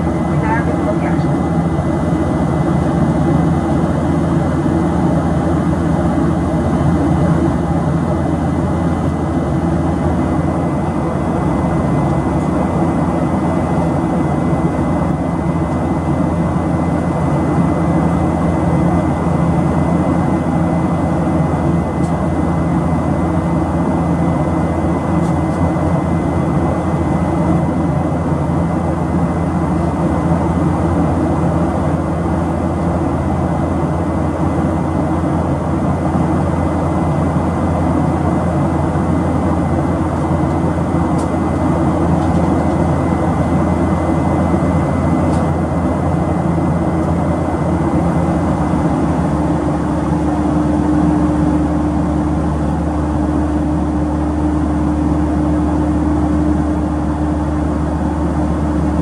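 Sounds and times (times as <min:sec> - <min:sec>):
jet cabin roar: 0:00.0 - 0:59.0.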